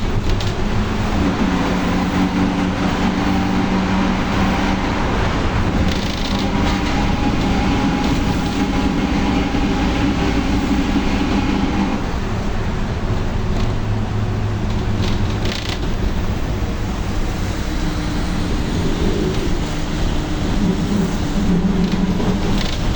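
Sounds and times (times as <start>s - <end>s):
bus differential growling: 0.0s - 22.9s
engine and road noise: 0.0s - 22.9s.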